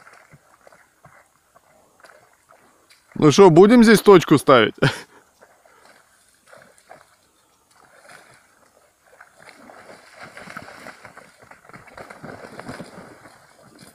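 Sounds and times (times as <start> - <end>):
steps splashing through floodwater: 0.0 - 4.3, 5.1 - 13.9.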